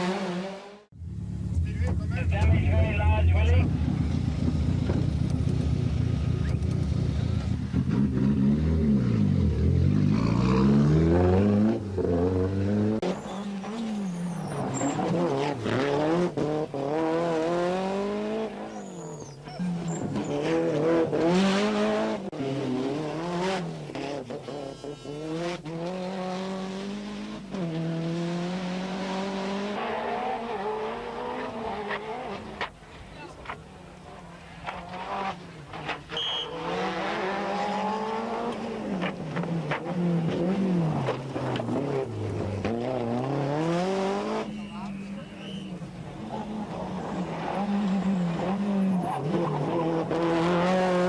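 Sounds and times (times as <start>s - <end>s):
car engine at full throttle: 0.0s - 18.7s, 19.7s - 51.0s.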